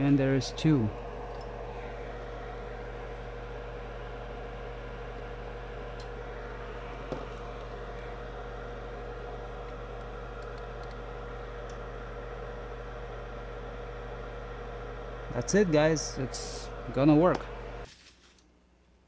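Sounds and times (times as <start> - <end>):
electrical hum with hiss: 0.0 - 19.0.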